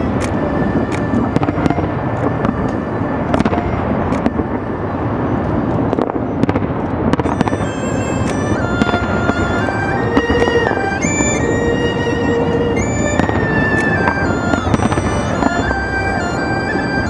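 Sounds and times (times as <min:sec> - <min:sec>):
continuous low rumble: 0:00.0 - 0:17.0
fireworks bangs and crackles: 0:00.0 - 0:17.0.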